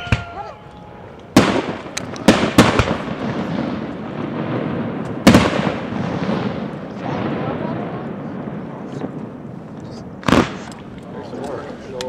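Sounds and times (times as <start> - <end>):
firework shells bursting: 1.1 - 12.0
rumble of booms: 1.3 - 11.1.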